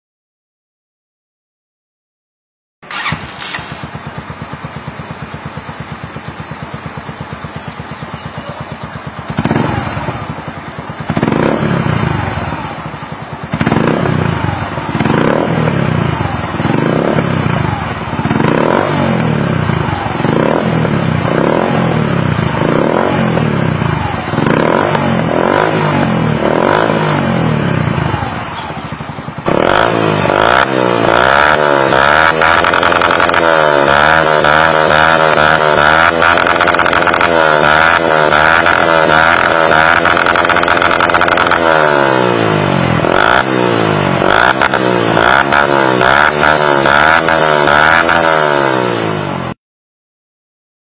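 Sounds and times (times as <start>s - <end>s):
motorcycle engine revving: 2.8s - 49.6s.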